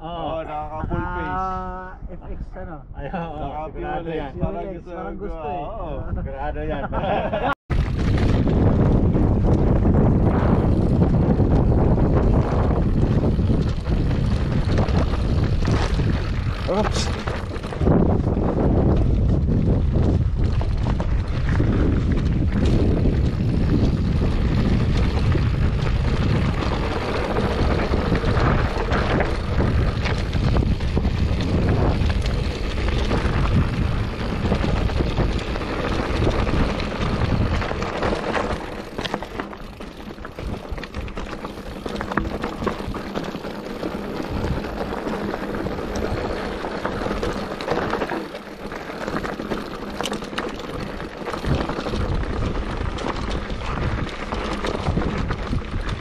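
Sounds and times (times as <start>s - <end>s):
wind buffeting microphone: 0.0s - 56.0s
bike clicking and rattling: 7.2s - 56.0s
tyres crunching over stones: 10.5s - 56.0s.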